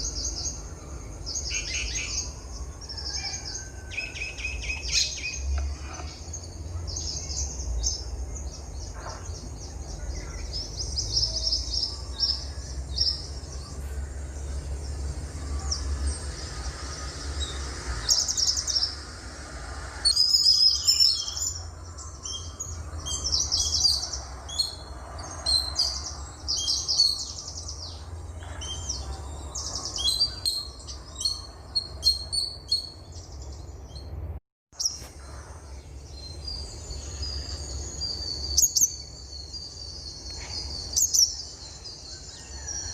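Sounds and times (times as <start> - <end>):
songbirds singing and chirping: 0.0 - 42.9.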